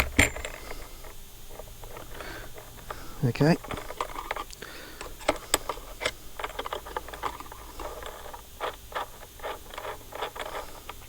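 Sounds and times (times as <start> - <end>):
small parts and tools clicking: 0.0 - 11.0.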